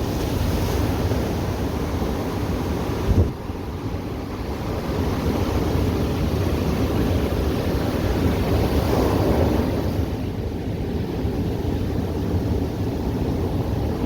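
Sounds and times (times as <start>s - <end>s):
ocean surf on beach: 0.0s - 14.0s
wind rumbling on microphone: 0.0s - 14.0s.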